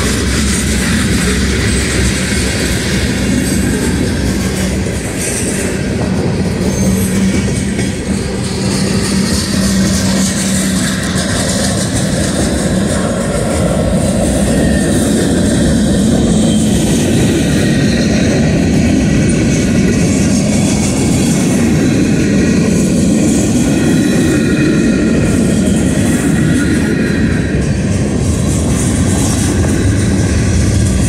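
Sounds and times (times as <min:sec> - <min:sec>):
train wheels rolling on rails: 0:00.0 - 0:31.0.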